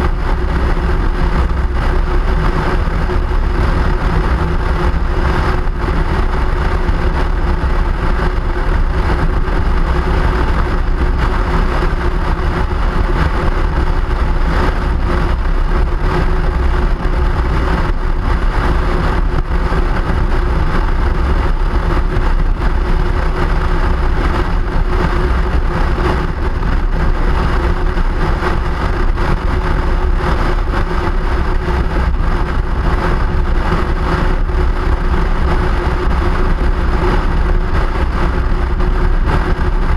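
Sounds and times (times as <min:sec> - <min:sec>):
vehicle rumble: 0:00.0 - 0:39.9.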